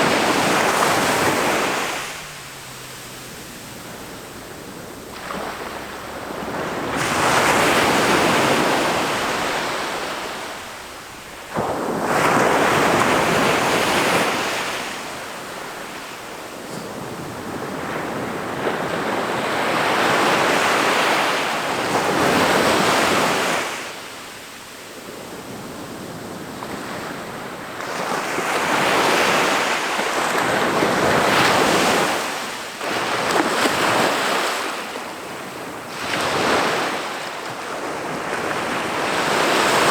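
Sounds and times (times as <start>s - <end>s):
waves crashing on beach: 0.0s - 39.9s.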